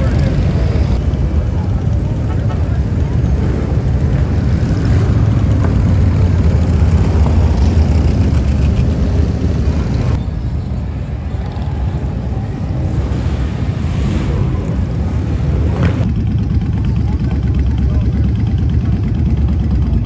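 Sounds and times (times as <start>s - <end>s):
motorcycle engines running: 0.0s - 10.2s, 11.0s - 20.0s.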